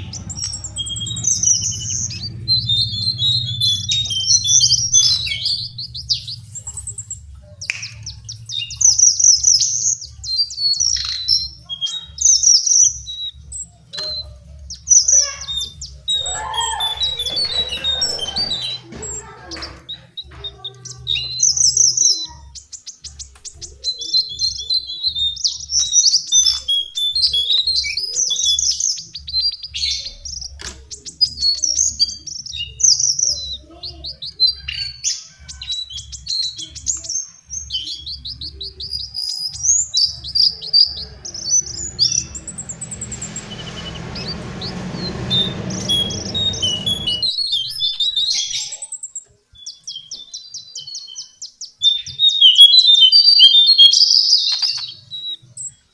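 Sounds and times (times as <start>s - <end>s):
bird singing high chirps: 0.0s - 55.9s.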